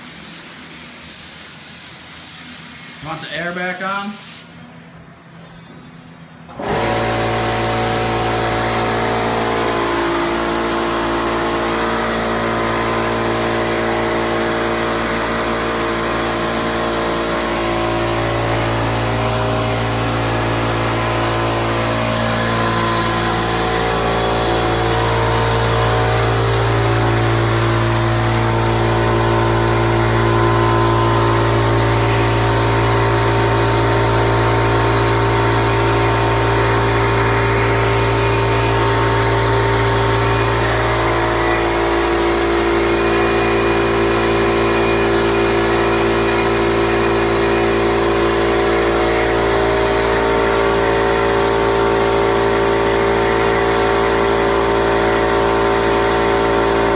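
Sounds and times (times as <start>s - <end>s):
spray gun hissing: 0.0s - 4.5s, 8.1s - 19.0s, 21.5s - 47.7s, 51.1s - 56.9s
air compressor motor hum: 0.0s - 56.9s.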